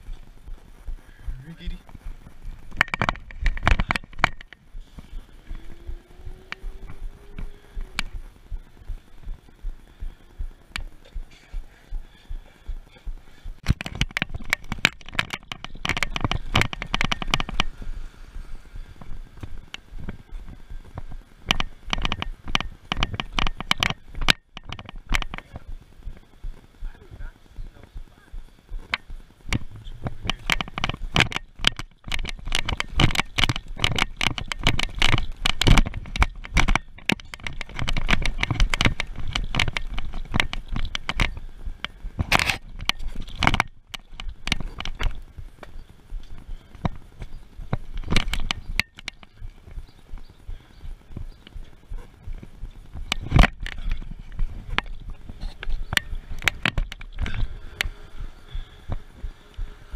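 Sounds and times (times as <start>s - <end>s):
camera jostling clicks and rustling: 1.6s - 11.7s, 12.9s - 18.0s, 18.8s - 26.8s, 28.7s - 59.9s.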